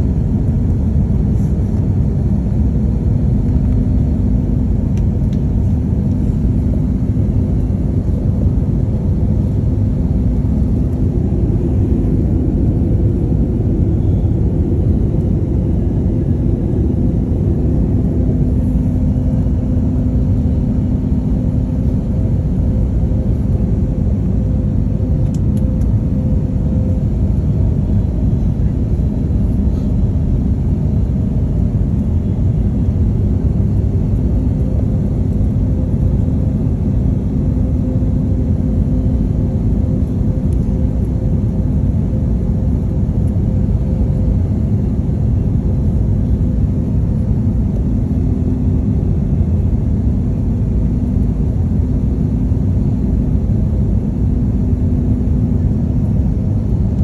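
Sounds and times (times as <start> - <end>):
faint hum: 0.0 - 57.0
jet airliner cabin rumble: 0.0 - 57.0.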